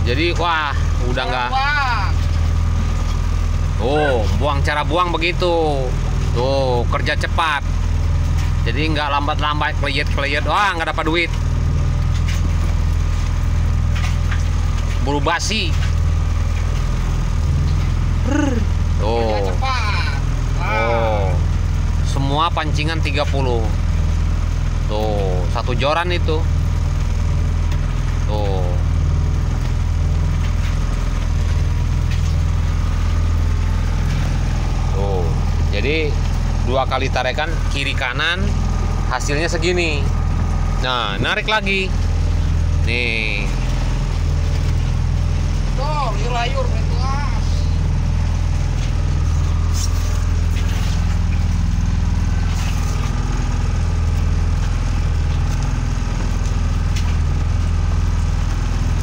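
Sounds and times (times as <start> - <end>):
boat engine low drone: 0.0 - 59.0.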